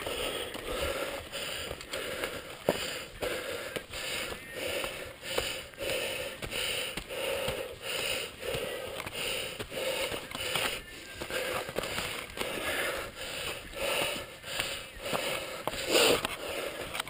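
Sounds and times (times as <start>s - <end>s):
bike clicking and knocking on trail: 0.0s - 17.0s
heavy rhythmic breathing: 0.0s - 17.0s.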